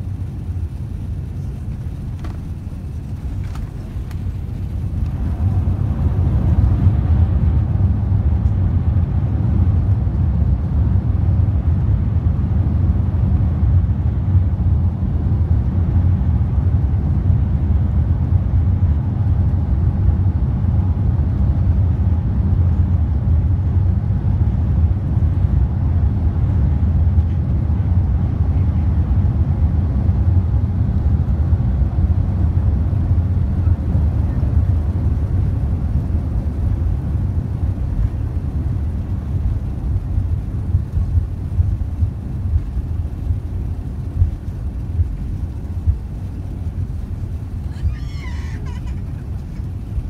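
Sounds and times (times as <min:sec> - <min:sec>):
airliner cabin rumble: 0:00.0 - 0:50.0.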